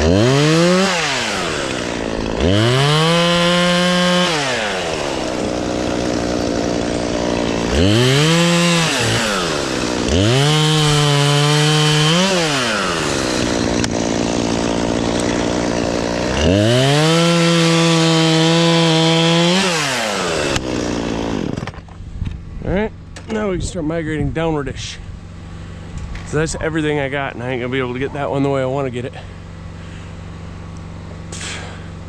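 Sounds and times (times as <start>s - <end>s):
chainsaw idling and revving: 0.0s - 21.9s, 25.2s - 32.0s.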